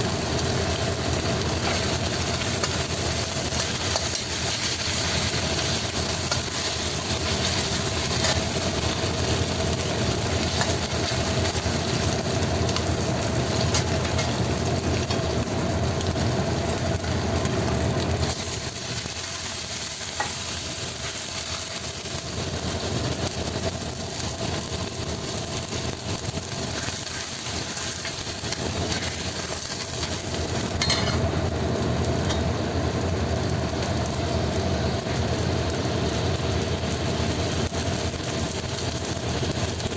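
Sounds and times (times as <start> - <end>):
food sizzling in hot oil: 0.0 - 39.9
steady hum: 0.0 - 39.9.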